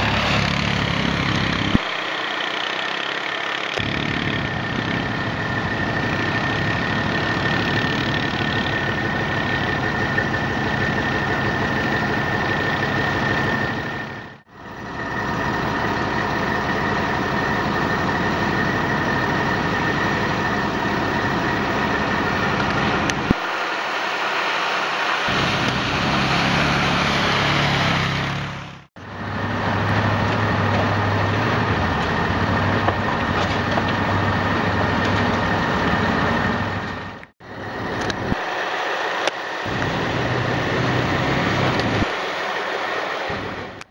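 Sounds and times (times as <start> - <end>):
quad engines under load: 0.0 - 43.9.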